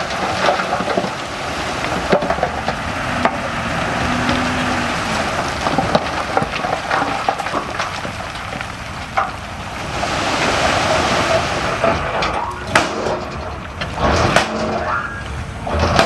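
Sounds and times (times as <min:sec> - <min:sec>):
earthmoving equipment moving soil: 0:00.0 - 0:16.0.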